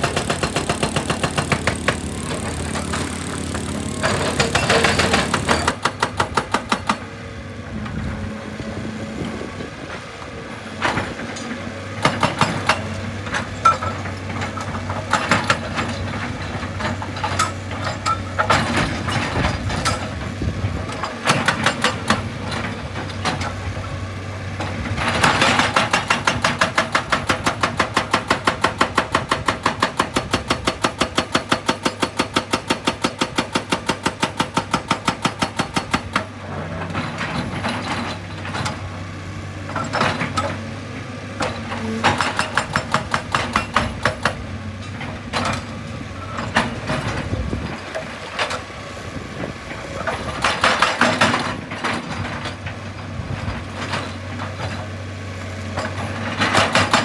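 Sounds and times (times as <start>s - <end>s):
diesel engine running: 0.0s - 27.7s, 35.9s - 57.0s
hydraulic hammer pounding rock: 0.0s - 57.0s.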